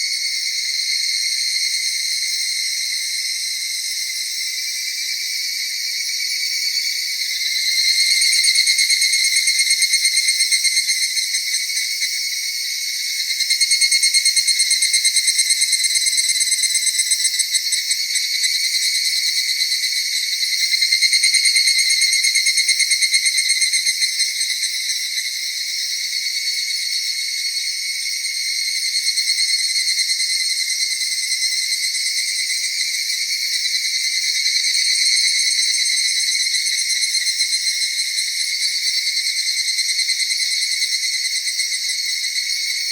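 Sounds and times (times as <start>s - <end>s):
night insects trilling: 0.0s - 42.9s.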